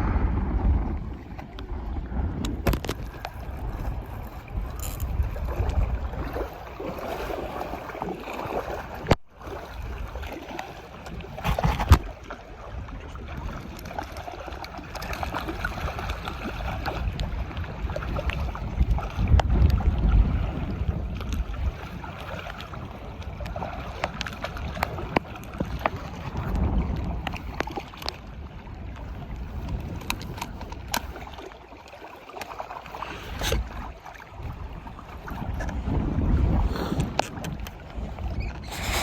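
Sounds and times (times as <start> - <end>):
wind buffeting microphone: 0.0 - 31.7, 32.6 - 39.0
moving water: 0.0 - 39.0.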